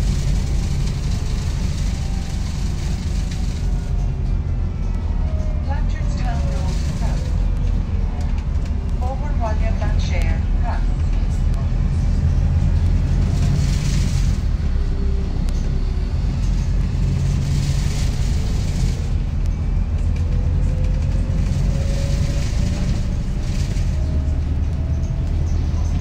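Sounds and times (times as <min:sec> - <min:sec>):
bus diesel engine drone: 0:00.0 - 0:26.0
road and body noise: 0:00.0 - 0:26.0.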